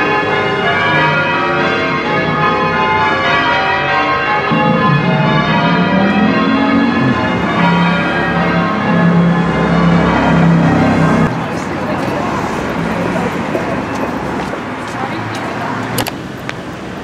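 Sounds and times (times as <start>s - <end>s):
church bells pealing: 0.0s - 14.4s.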